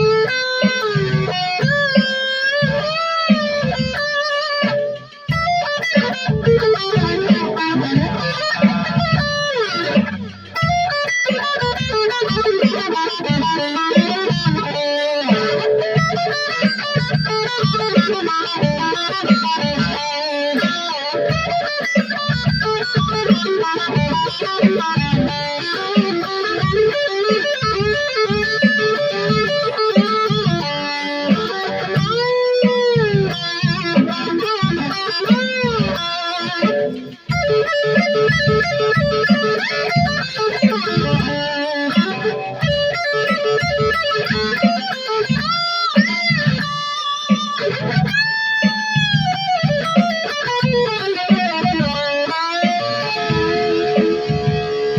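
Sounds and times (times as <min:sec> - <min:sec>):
electric guitar picked notes: 0:00.0 - 0:54.9
guitar string bends: 0:00.0 - 0:54.9.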